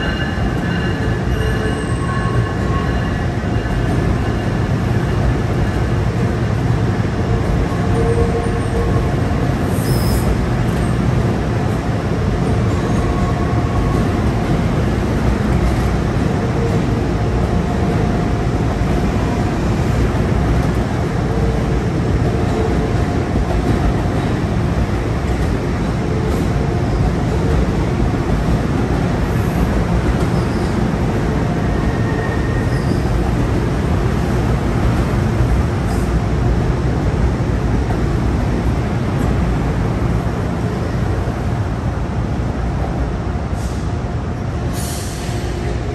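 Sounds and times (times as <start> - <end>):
train rumbling: 0.0 - 45.9.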